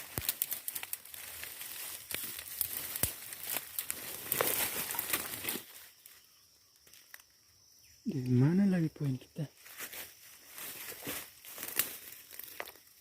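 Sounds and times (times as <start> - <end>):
grass rustling and crackling: 0.0 - 7.4, 9.5 - 13.0.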